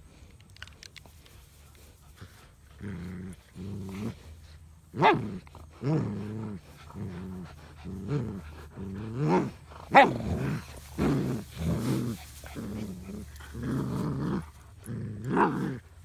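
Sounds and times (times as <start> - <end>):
dogs growling in play: 0.0 - 16.0.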